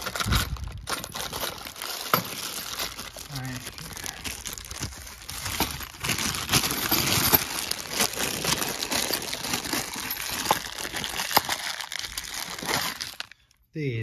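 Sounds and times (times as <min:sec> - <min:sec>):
plastic bags crinkling: 0:00.0 - 0:13.5.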